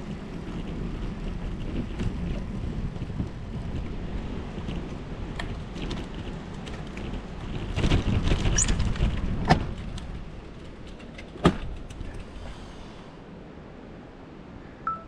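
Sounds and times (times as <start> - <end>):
wind buffeting microphone: 0.0 - 13.7.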